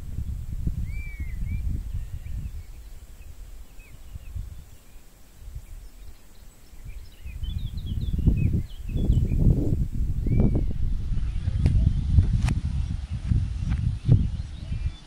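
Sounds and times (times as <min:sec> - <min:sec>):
small birds chirping: 0:00.0 - 0:15.0
wind buffeting microphone: 0:00.0 - 0:15.0.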